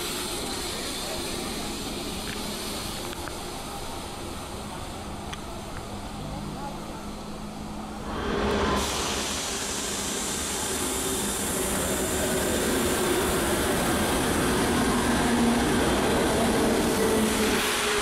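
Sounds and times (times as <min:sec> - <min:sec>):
faint train whine: 0:00.0 - 0:18.0
train wheels rushing on rails: 0:00.0 - 0:18.0.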